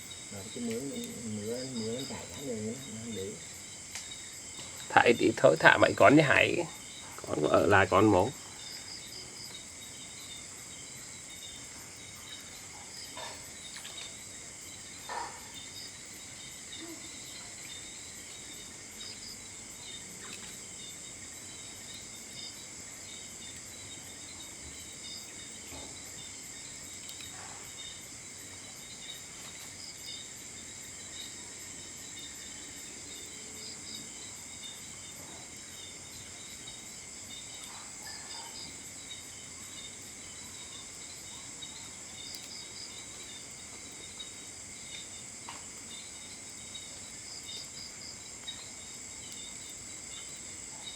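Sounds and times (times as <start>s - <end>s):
crickets and insects chirping: 0.0s - 50.9s.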